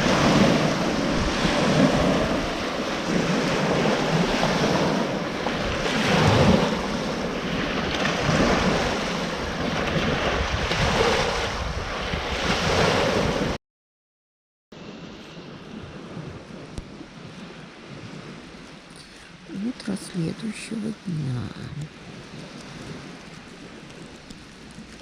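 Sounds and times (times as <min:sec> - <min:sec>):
waves washing on shore: 0:00.0 - 0:13.6, 0:14.8 - 0:25.0
wind buffeting microphone: 0:00.0 - 0:13.6, 0:14.8 - 0:25.0.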